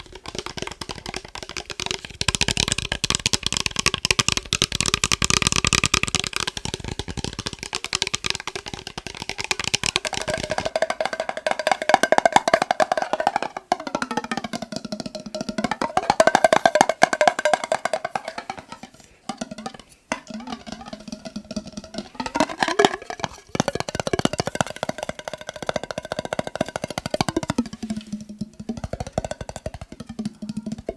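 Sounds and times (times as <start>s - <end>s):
tapping on glass jar of water: 0.0s - 30.9s.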